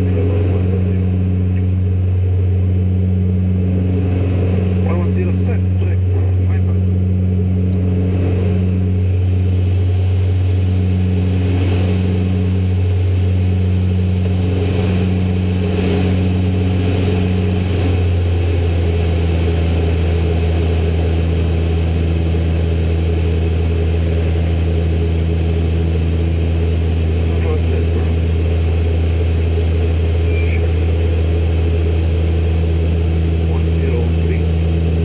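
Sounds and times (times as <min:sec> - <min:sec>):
higher wavering hum: 0:00.0 - 0:35.0
turboprop engines droning: 0:00.0 - 0:35.0.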